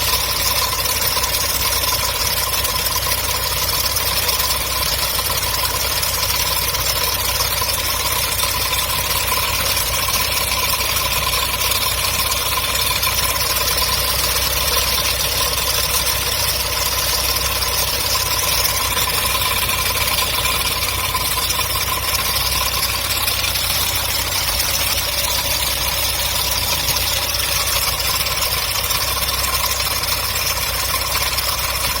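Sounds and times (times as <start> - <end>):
car engine idling: 0.0 - 32.0
engine whine: 0.0 - 32.0.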